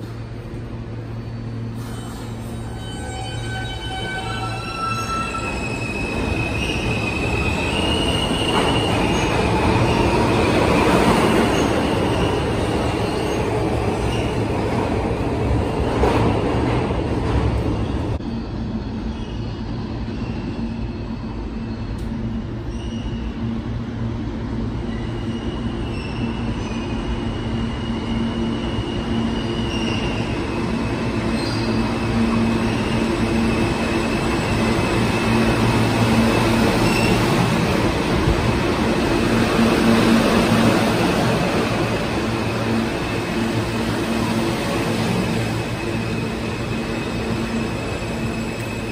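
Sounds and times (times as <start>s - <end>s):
subway train running: 0.0s - 48.9s
train wheel squeal: 0.9s - 14.4s, 17.7s - 23.6s, 24.8s - 37.8s, 39.2s - 48.9s.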